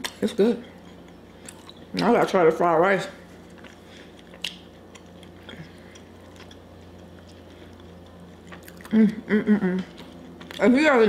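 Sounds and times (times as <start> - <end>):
quiet chewing: 0.0 - 2.1, 3.2 - 9.0, 9.8 - 10.8.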